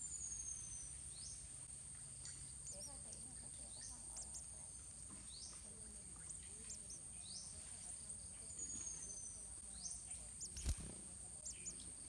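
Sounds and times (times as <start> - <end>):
high bird chirps: 0.0 - 1.5, 2.2 - 12.0.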